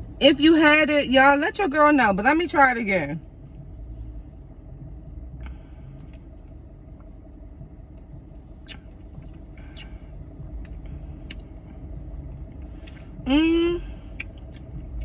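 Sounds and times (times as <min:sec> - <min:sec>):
low rumble inside car: 0:00.0 - 0:15.0.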